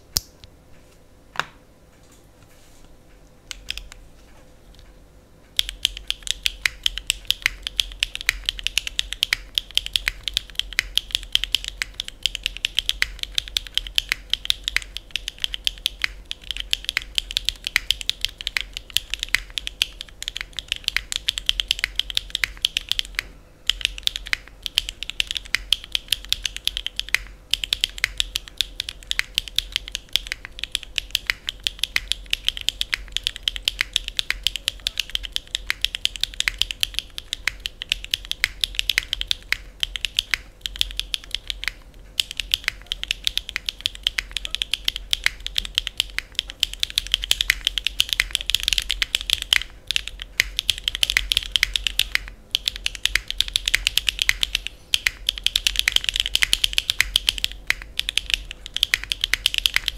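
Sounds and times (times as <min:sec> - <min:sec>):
mechanical keyboard typing: 0:05.5 - 0:59.9.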